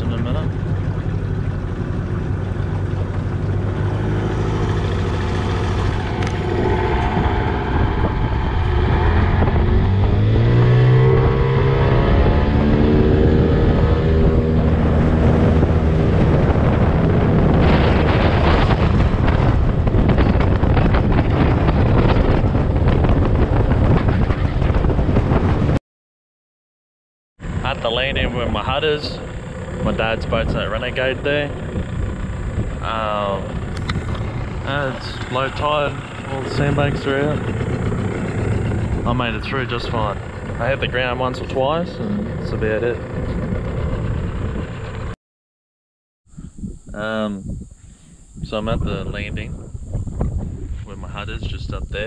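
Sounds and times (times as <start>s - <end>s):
outboard motor running: 0.0s - 25.7s, 27.4s - 45.2s
wind buffeting microphone: 0.0s - 25.8s, 27.4s - 45.2s, 46.3s - 52.0s.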